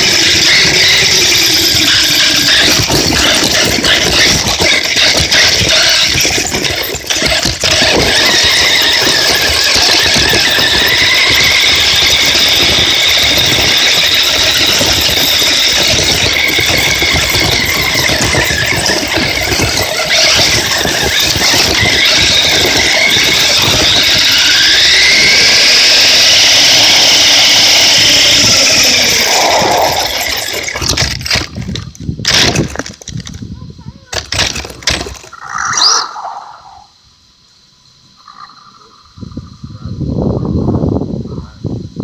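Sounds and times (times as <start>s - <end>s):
tyres and chassis noise: 0.0s - 35.9s
rc truck motors whining: 0.0s - 37.0s.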